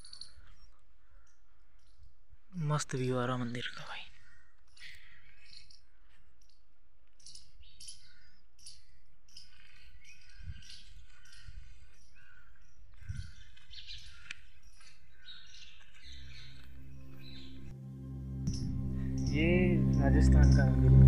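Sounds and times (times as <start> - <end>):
small birds chirping: 0.0 - 17.8, 18.4 - 21.0.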